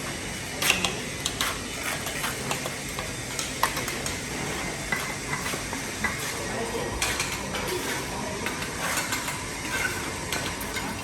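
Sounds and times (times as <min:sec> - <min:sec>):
background hum of activity: 0:00.0 - 0:11.0.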